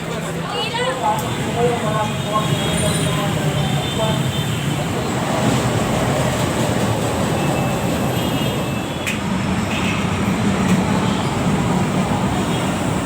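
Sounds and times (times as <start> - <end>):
light-rail train rumbling: 0.0 - 13.0.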